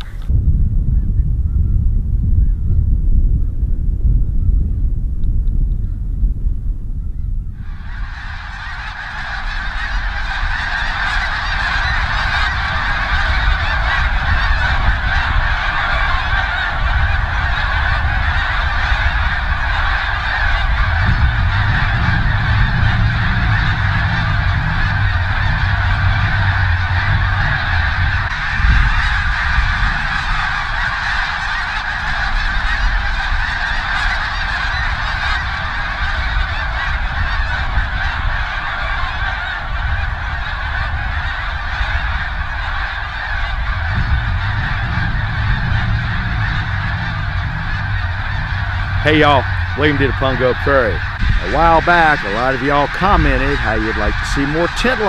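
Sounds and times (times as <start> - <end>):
low rumble: 0.0 - 31.4, 41.7 - 55.0
geese honking: 7.6 - 55.0.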